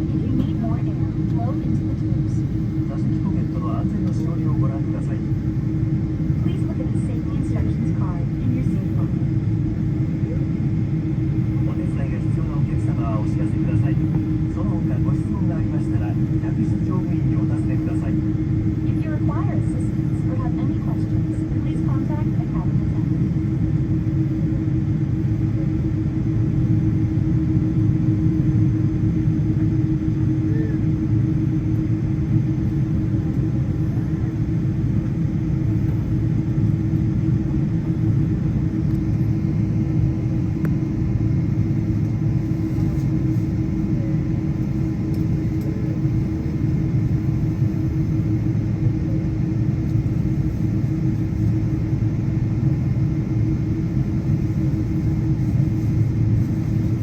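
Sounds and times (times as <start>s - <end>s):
airplane cabin rumble: 0.0s - 57.0s
constant mid-low hum: 0.0s - 57.0s.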